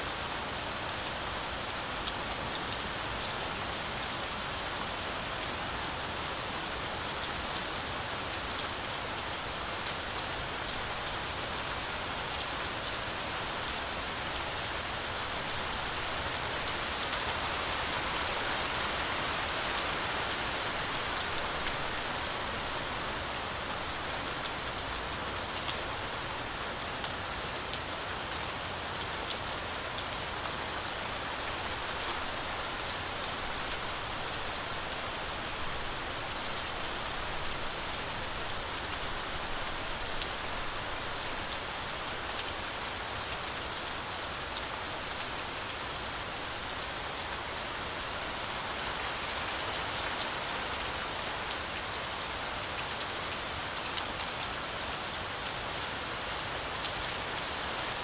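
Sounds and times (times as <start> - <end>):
heavy rain through forest canopy: 0.0 - 58.0
raindrops pattering on leaves: 0.0 - 58.0.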